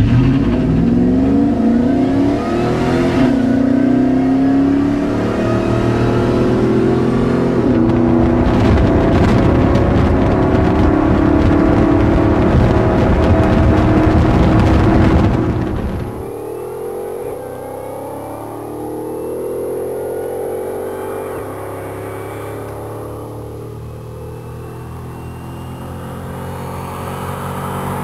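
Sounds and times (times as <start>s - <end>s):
engine at full throttle: 0.0s - 28.0s.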